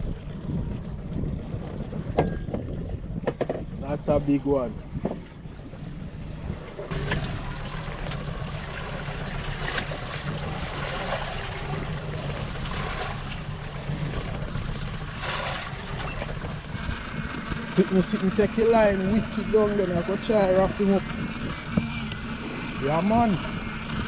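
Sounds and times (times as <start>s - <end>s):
steady low hum: 0.0s - 24.0s
water sloshing around boat: 0.0s - 24.0s
wind buffeting microphone: 0.0s - 24.0s.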